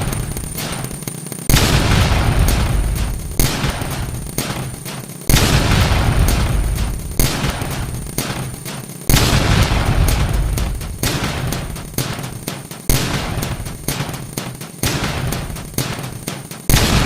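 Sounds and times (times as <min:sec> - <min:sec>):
harsh crackling static: 0:00.0 - 0:17.0.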